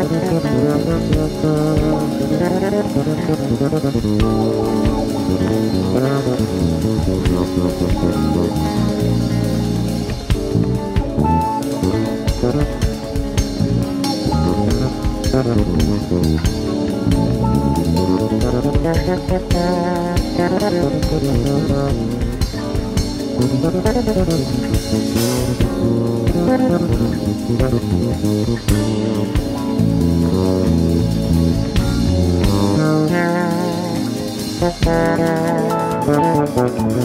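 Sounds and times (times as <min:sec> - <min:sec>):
guitar bass and drums music: 0:00.0 - 0:37.0.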